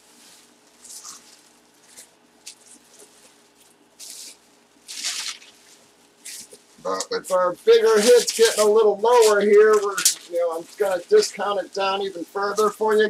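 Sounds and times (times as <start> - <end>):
bubble wrap and plastic crinkling: 0.0 - 13.0.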